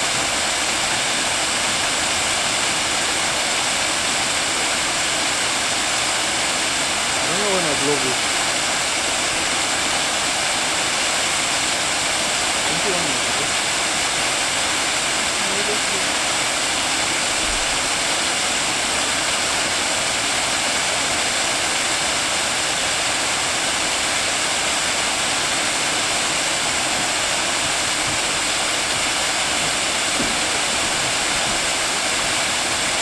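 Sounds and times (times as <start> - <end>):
waterfall pouring over rocks: 0.0 - 33.0.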